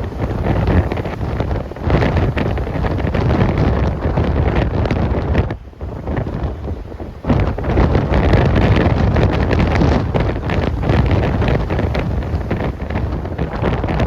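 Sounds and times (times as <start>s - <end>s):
strong wind gusts on microphone: 0.0s - 14.0s.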